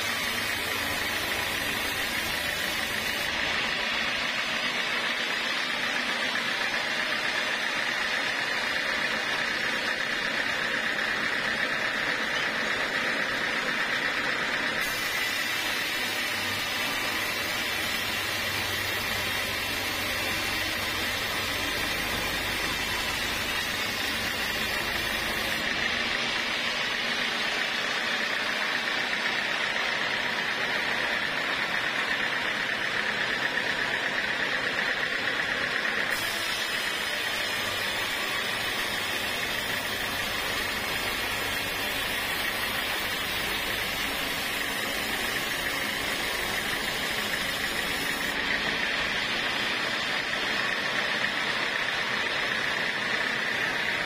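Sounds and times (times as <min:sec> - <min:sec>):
sawmill blade cutting a log: 0:00.0 - 0:54.0.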